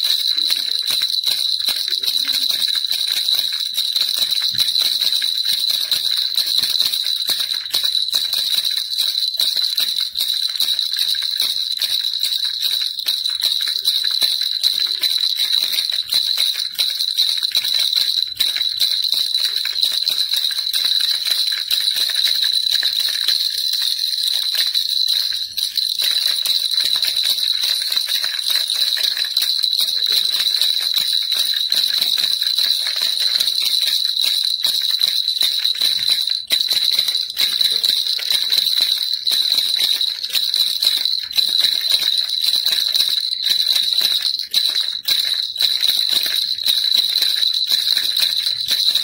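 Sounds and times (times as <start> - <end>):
baby rattle shaking: 0.0 - 49.0.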